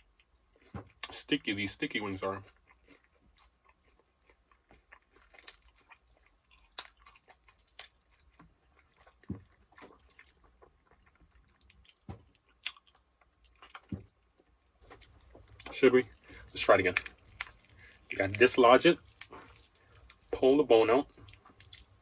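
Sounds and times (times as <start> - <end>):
wet chewing and biting: 0.0 - 1.3, 2.3 - 22.0.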